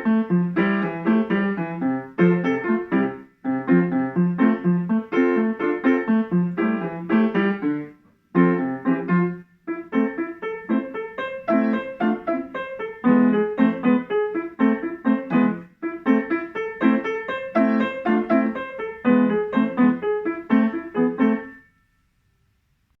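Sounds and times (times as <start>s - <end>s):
grand piano playing: 0.0s - 21.7s.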